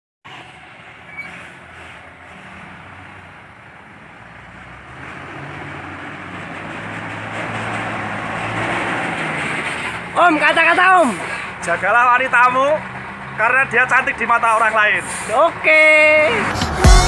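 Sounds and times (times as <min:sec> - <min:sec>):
truck engine and road noise: 0:00.2 - 0:17.0.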